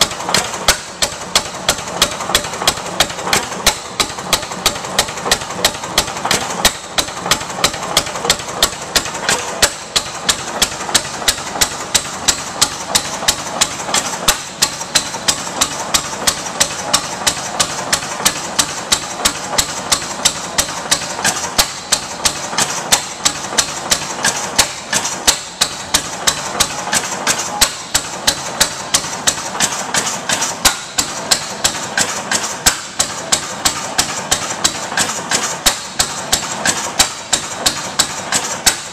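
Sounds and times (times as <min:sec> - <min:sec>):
gas engine sharp beats: 0:00.0 - 0:38.9
mechanical clatter: 0:00.0 - 0:38.9.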